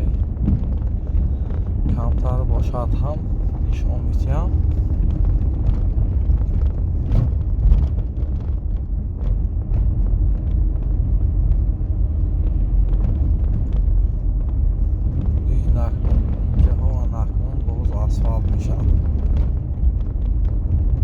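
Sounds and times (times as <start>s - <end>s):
car rumbling on the move: 0.0s - 21.0s.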